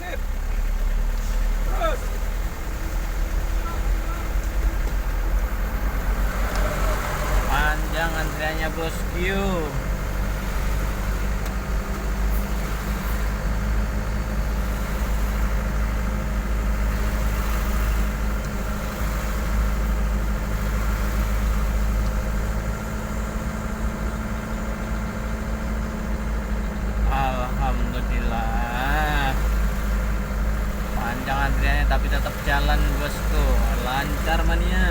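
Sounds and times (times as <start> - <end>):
vehicle engine idling: 0.0 - 34.9.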